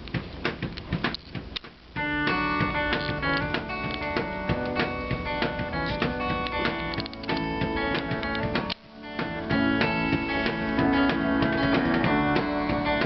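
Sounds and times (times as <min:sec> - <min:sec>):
guitar music with strummed chords: 0:02.0 - 0:13.0.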